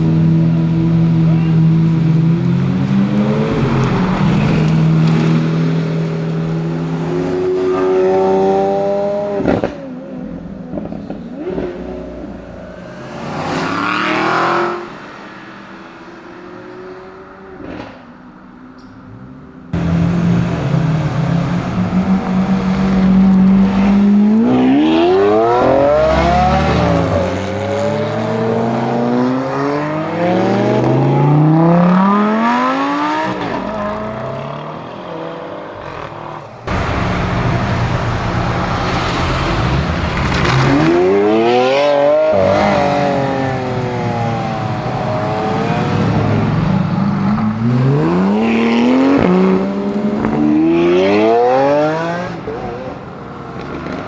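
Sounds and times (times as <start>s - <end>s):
sports car accelerating hard: 0.0s - 18.0s, 19.8s - 37.4s, 38.4s - 54.0s.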